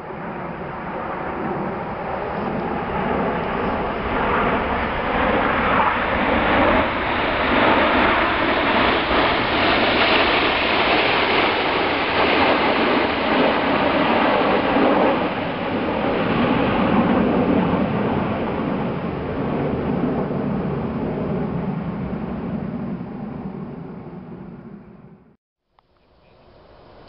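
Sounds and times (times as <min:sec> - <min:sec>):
jet roar: 0:00.0 - 0:25.4, 0:26.3 - 0:27.0.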